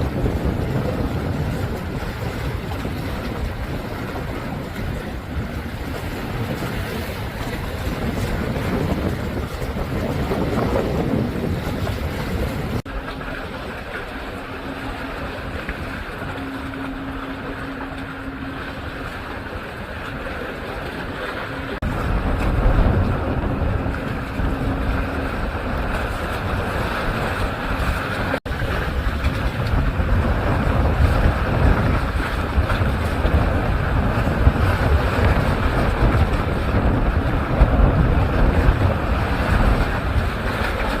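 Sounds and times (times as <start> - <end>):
sea waves washing: 0.0 - 41.0
wind on microphone: 0.0 - 41.0.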